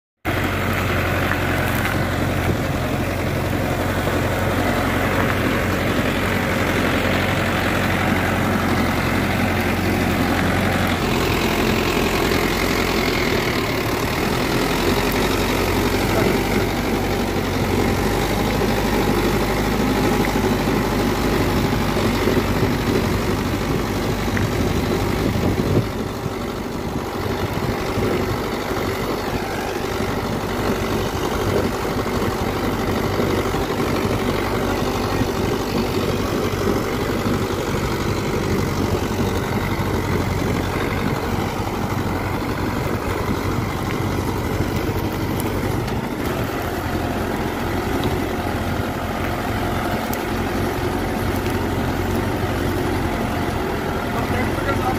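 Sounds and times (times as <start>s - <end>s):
tractor diesel engine under load: 0.2s - 54.9s.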